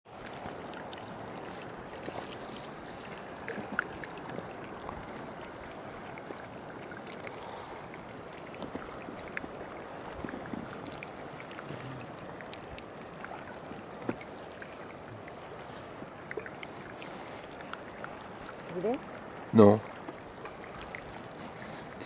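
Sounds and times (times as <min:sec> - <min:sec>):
water lapping along a kayak hull: 0:00.0 - 0:22.0
small splashes and drips: 0:00.1 - 0:22.0.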